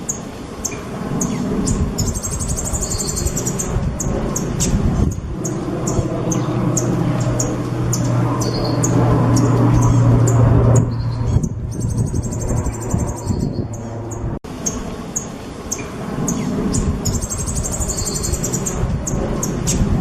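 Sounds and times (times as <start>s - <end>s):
songbird chirping and trilling: 0.0s - 20.0s
steady low hum: 0.0s - 20.0s.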